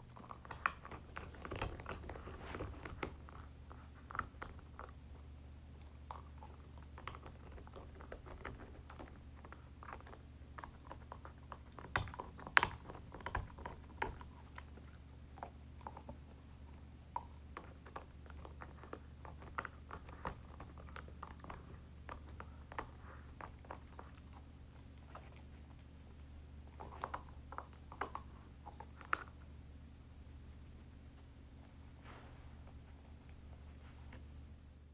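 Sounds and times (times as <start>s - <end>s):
dog gnawing a bone: 0.0s - 29.6s
faint low hum: 0.0s - 34.9s.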